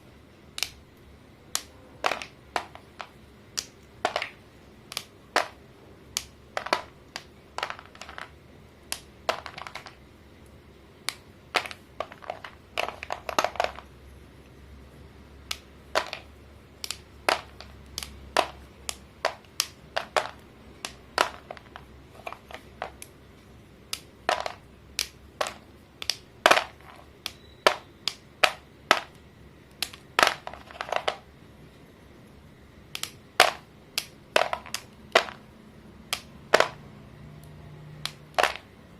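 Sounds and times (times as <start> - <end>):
chalk sticks snapping: 0.5 - 8.3, 8.9 - 10.0, 11.0 - 13.8, 15.4 - 23.2, 23.9 - 31.2, 32.9 - 35.4, 36.1 - 36.8, 37.4 - 38.7.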